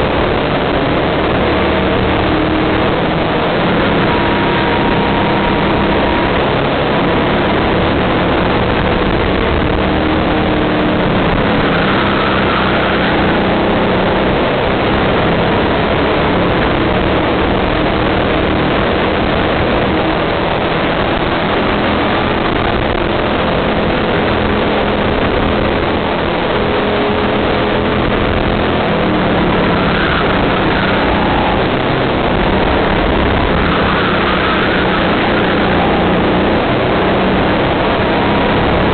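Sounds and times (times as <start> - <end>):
kart engine running hard: 0.0 - 38.9
wind and road noise: 0.0 - 38.9.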